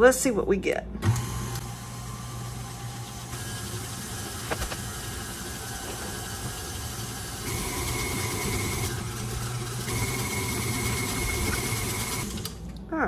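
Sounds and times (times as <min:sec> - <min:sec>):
stand mixer motor humming: 0:01.1 - 0:12.6.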